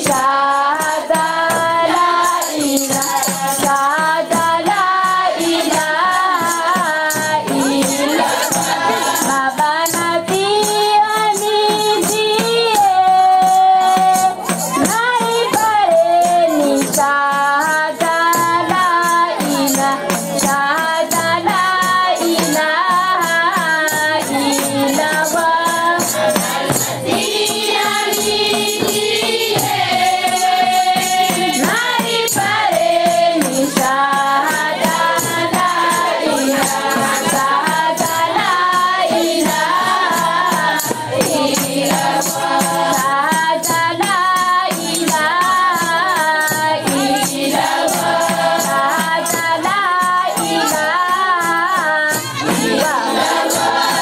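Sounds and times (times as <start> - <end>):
sharp percussion strokes: 0.0 - 54.0
women's chorus singing a chant: 0.0 - 54.0.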